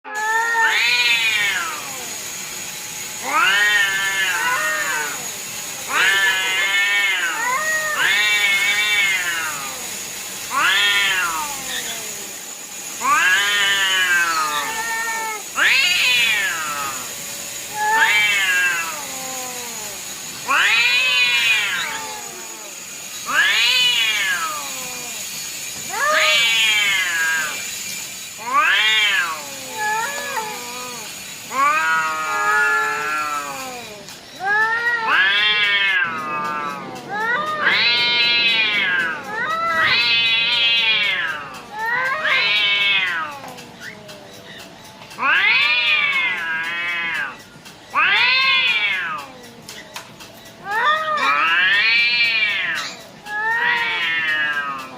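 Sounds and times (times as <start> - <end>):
cat meowing: 0.1 - 2.1, 3.2 - 5.3, 5.9 - 12.2, 13.0 - 25.2, 25.8 - 27.7, 28.4 - 44.2, 45.2 - 49.7, 50.6 - 54.9.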